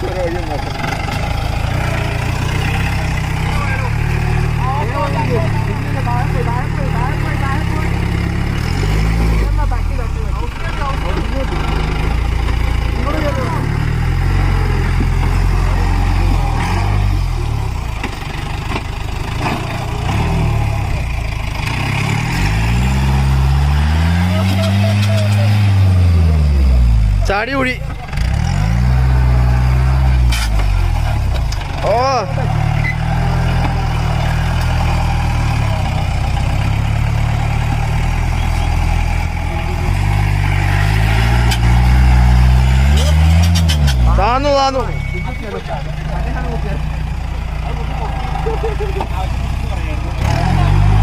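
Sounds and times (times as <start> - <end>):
jeep engine revving: 0.0 - 51.0.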